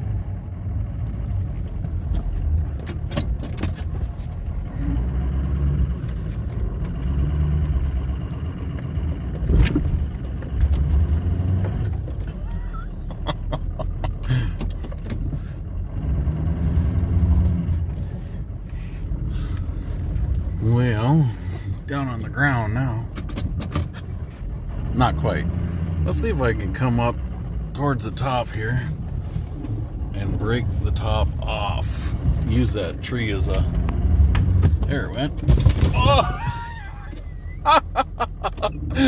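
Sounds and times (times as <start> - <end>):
truck engine revving: 3.7 - 23.2, 23.9 - 39.0.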